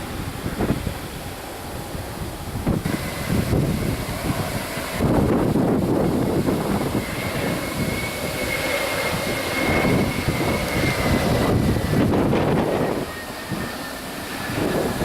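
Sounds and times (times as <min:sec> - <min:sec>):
jet engines rumbling and whining: 0:00.0 - 0:15.0
wind buffeting microphone: 0:00.0 - 0:15.0.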